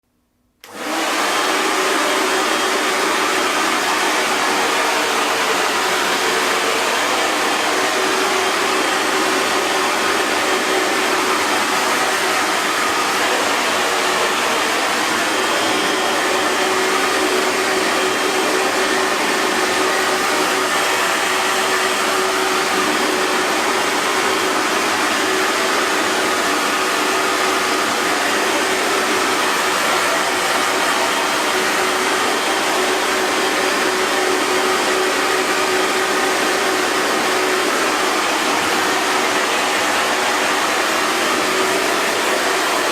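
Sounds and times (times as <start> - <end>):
hair dryer running: 0.6 - 42.9.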